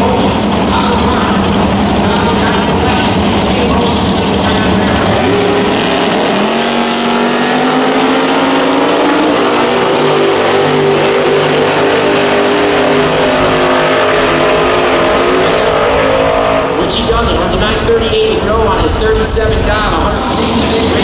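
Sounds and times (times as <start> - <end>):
drag cars launching at full throttle: 0.0 - 21.0.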